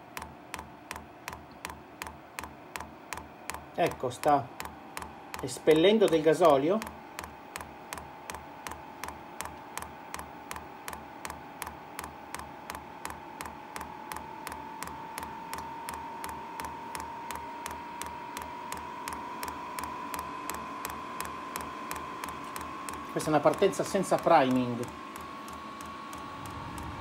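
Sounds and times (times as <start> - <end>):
blower fan whine: 0.0 - 27.0
fuel pump ticking: 0.0 - 27.0.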